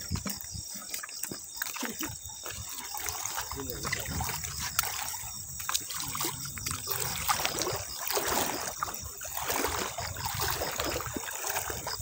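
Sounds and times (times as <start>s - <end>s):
feet wading through water: 0.0s - 12.0s.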